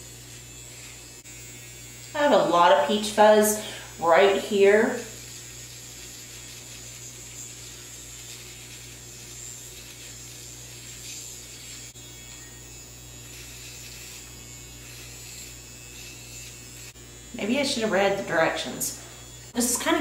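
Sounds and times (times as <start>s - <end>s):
electric hair remover buzzing: 0.0s - 20.0s.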